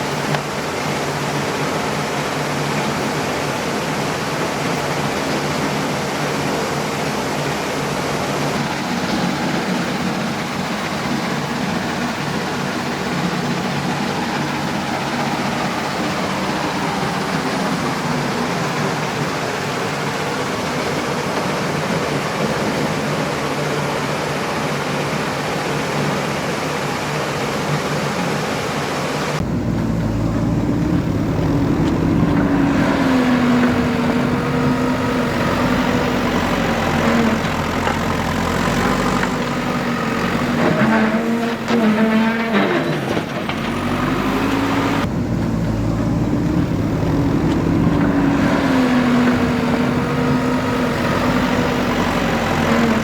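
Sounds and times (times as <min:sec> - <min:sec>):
diesel engine working under load: 0:00.0 - 0:53.0.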